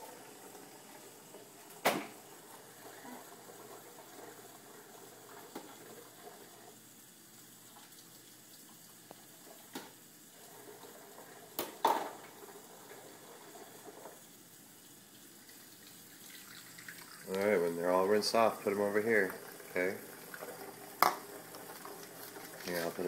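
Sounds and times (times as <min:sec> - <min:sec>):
faucet running into sink: 0:00.0 - 0:23.0.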